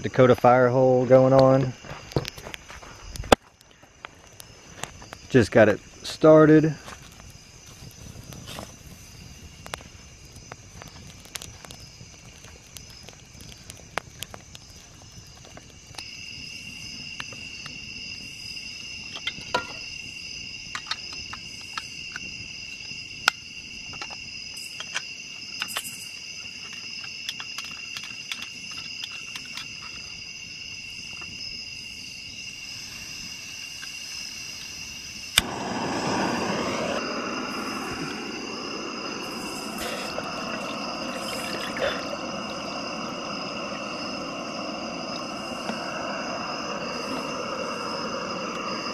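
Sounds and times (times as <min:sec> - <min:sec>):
night insects chirring: 0:00.0 - 0:48.9.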